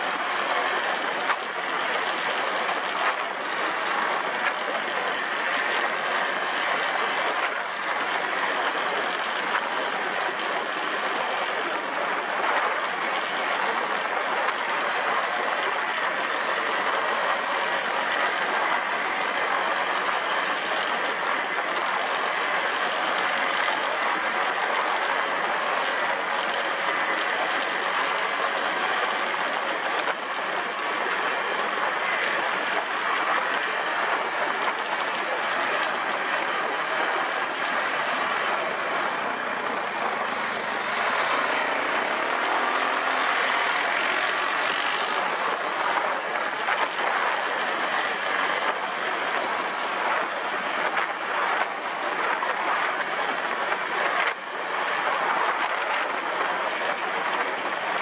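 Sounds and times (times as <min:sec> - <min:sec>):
all-terrain vehicle engine drone: 0:00.0 - 0:58.0.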